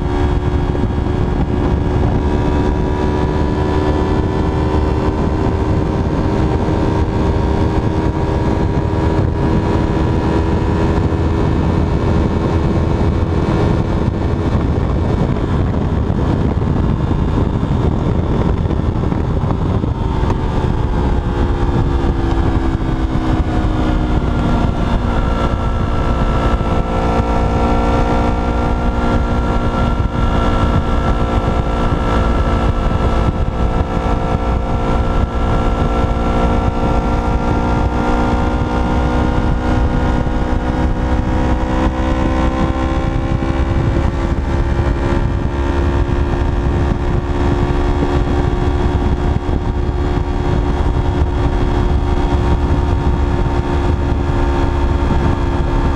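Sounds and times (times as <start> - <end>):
motorcycle engine running: 0.0 - 55.9
wind rumble on microphone: 0.0 - 55.9.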